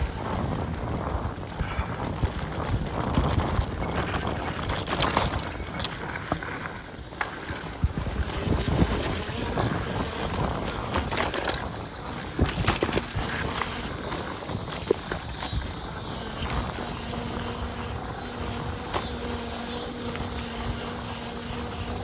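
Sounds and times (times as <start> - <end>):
bike knocks and rattles: 0.0 - 22.0
bike tyres rolling on dirt: 0.0 - 22.0
wind buffeting microphone: 0.0 - 22.0.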